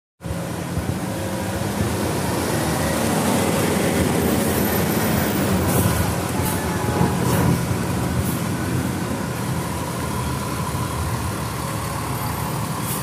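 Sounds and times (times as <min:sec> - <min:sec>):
diesel engine running: 0:00.2 - 0:13.0.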